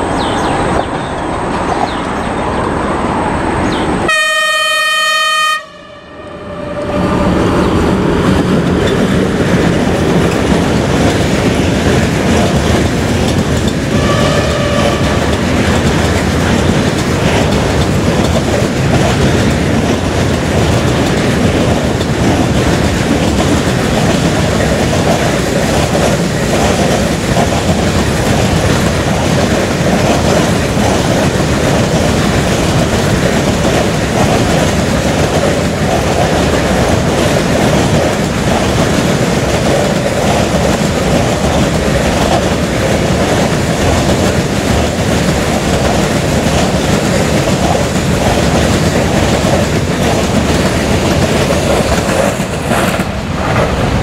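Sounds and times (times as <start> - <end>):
freight wagon wheels clattering on rails: 7.7 - 53.8.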